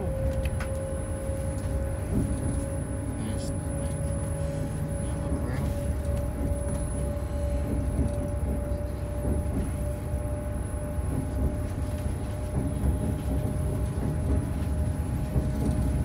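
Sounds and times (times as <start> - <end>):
constant hum: 0.0 - 16.0
moving train rumble: 0.0 - 16.0.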